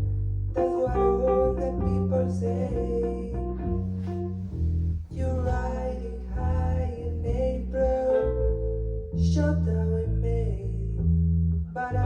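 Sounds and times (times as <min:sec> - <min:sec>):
steady bass line: 0:00.0 - 0:12.0.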